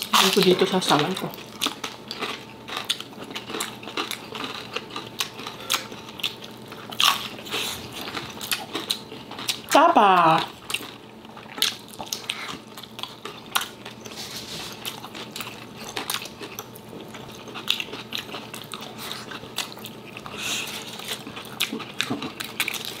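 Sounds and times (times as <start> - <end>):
biting and chewing: 0.0 - 9.8, 10.4 - 23.0.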